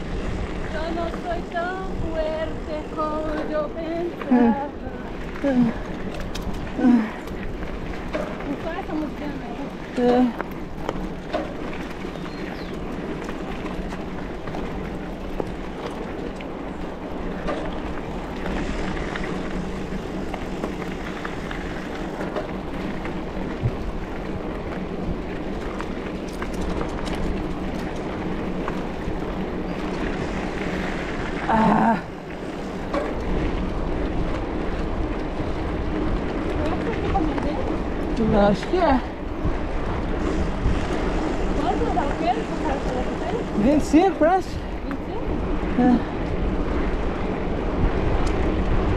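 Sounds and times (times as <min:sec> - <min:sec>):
bike tyres rolling: 0:00.0 - 0:48.9
wind: 0:00.0 - 0:48.9.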